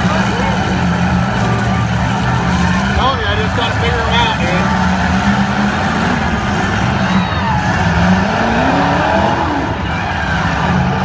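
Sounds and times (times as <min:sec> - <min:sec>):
car engines revving: 0:00.0 - 0:11.0
voices: 0:00.0 - 0:11.0.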